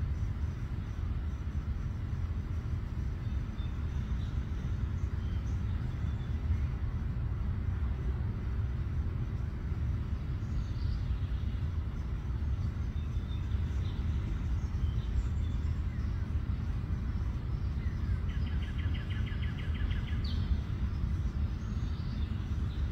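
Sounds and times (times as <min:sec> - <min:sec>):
low outdoor rumble: 0:00.0 - 0:22.9
small birds chirping: 0:00.1 - 0:07.8, 0:09.2 - 0:22.9.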